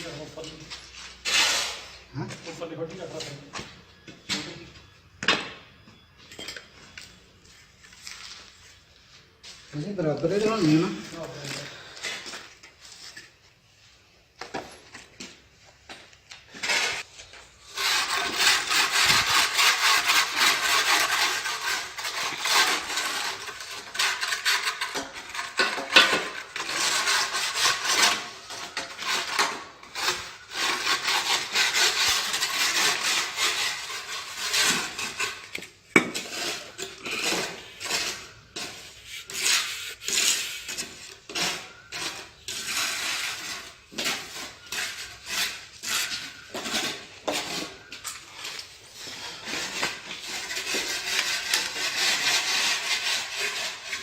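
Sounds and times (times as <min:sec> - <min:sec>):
hand tools scraping tile: 0:00.0 - 0:03.7, 0:14.4 - 0:54.0.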